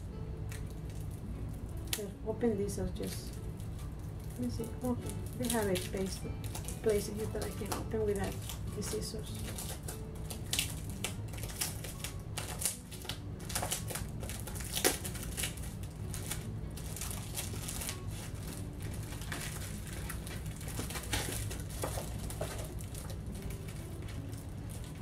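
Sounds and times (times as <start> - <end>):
plastic packaging crinkling: 2.9 - 25.0.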